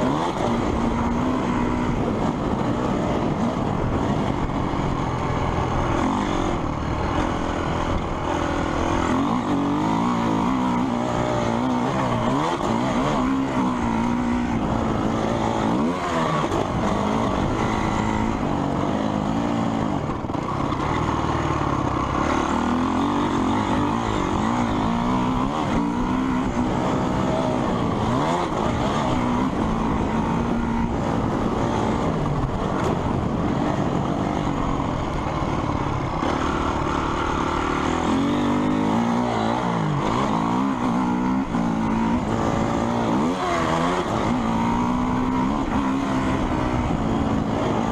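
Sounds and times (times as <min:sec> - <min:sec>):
motocross bike engines revving: 0:00.0 - 0:47.9.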